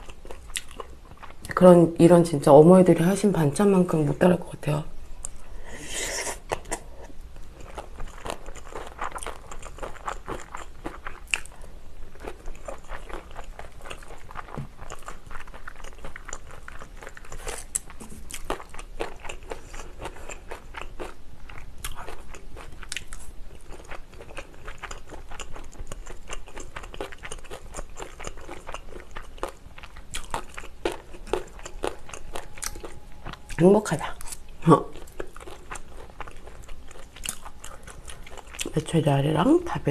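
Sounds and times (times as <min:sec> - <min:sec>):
close-up chewing and crunching: 0:00.0 - 0:01.6, 0:06.4 - 0:39.6.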